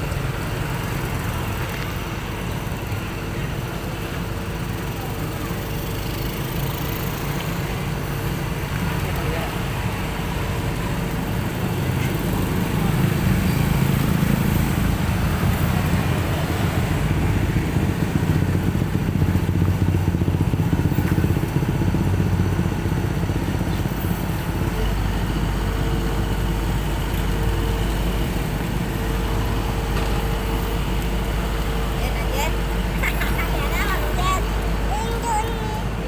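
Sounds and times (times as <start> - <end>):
diesel truck engine rumbling: 0.0 - 36.0.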